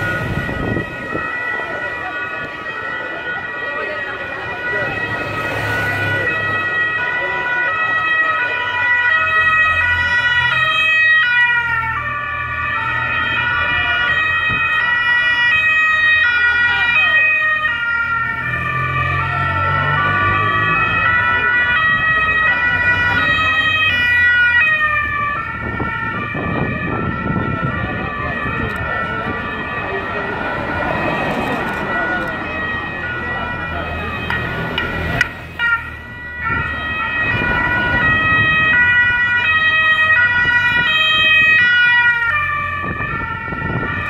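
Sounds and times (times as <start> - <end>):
two-tone sirens: 0.0 - 44.0
vehicle engines rumbling: 0.0 - 44.0.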